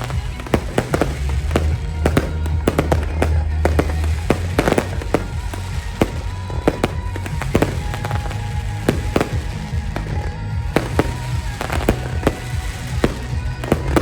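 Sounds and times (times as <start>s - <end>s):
fireworks bursting: 0.0s - 14.0s
music playing: 0.0s - 14.0s.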